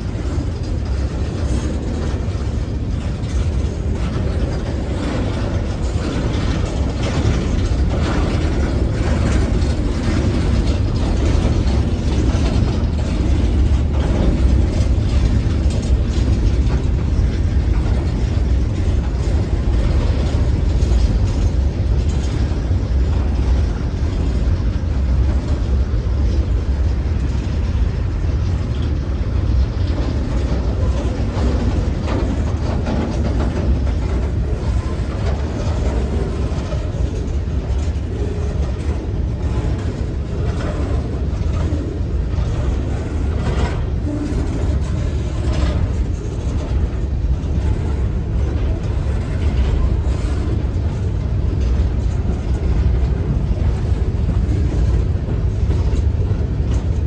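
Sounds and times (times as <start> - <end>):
train rumbling past: 0.0 - 57.0
wheels clicking on rails: 0.0 - 57.0.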